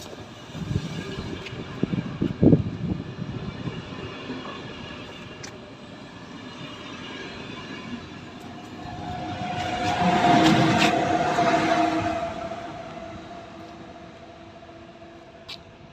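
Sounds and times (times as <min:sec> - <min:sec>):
train rumbling: 0:00.0 - 0:15.9.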